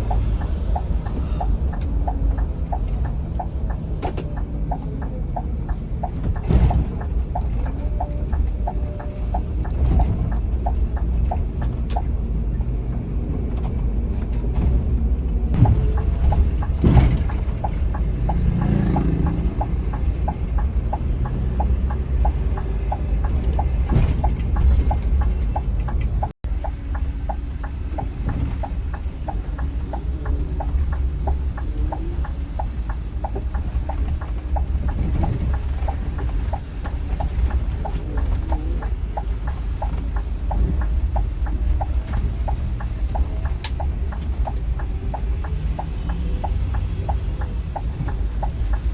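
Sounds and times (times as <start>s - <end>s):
coach engine and road rumble: 0.0s - 48.9s.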